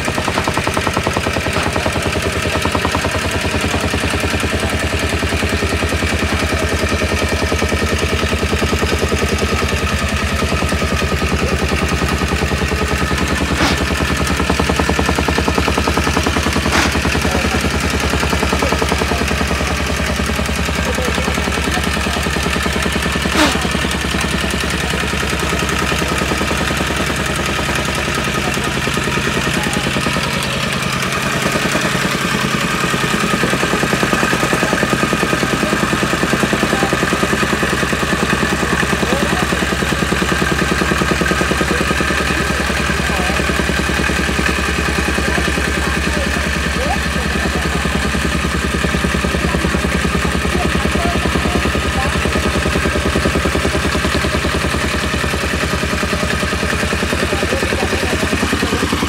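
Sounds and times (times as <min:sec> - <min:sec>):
tamping rammer pounding dirt: 0:00.0 - 0:59.0.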